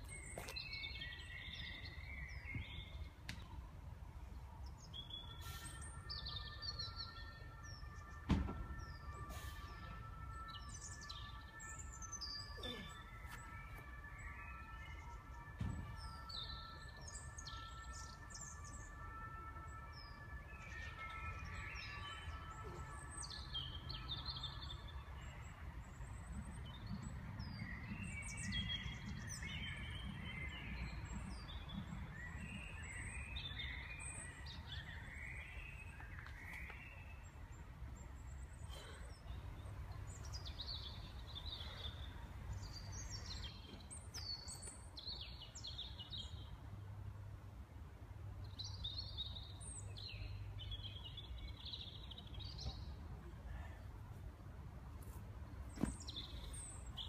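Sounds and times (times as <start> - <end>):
small birds singing: 0.0 - 46.8, 48.4 - 54.2, 55.6 - 57.0.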